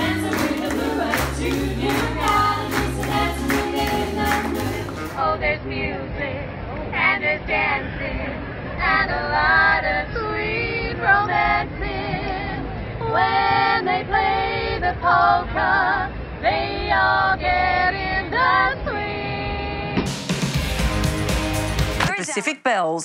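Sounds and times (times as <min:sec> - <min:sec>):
female vocal trio singing in harmony: 0:00.0 - 0:20.1.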